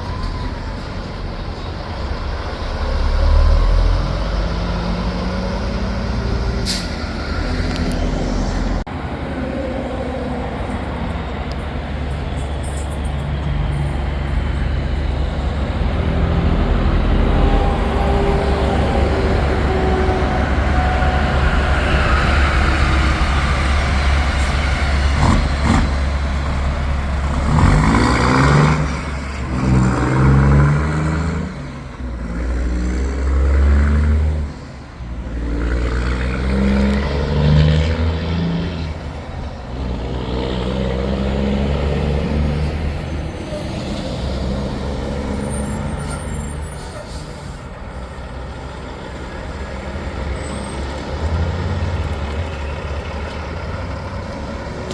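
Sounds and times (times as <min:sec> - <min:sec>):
diesel trucks passing: 0:00.0 - 0:54.9.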